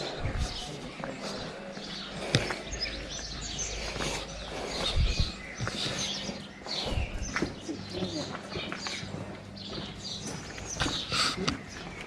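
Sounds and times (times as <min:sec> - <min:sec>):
low microphone rumble: 0:00.0 - 0:11.8
small birds chirping: 0:00.0 - 0:12.0.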